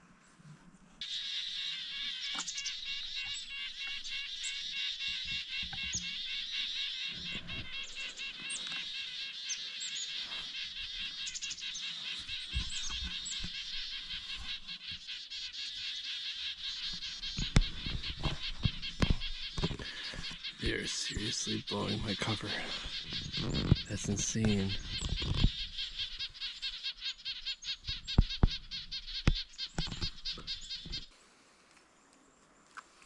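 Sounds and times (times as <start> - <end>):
small birds chirping and twittering: 0.0 - 31.2.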